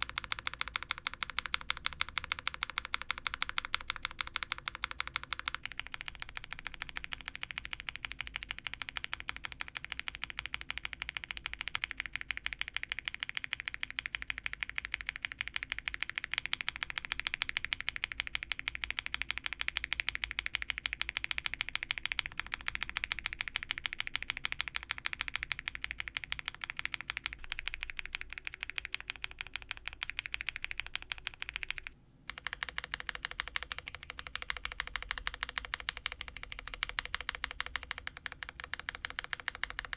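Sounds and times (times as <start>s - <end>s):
mechanical keyboard keys clacking: 0.0s - 39.9s.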